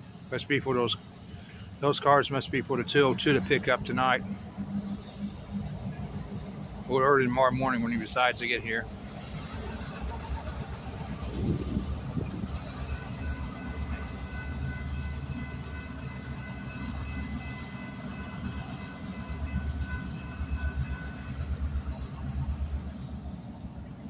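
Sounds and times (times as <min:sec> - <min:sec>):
locomotive and cars rumbling past: 0:00.0 - 0:24.0.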